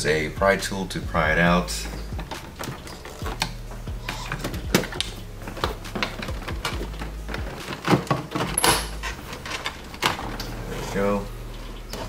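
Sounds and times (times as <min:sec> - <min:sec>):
steady low hum: 0:00.0 - 0:07.8, 0:08.5 - 0:12.0.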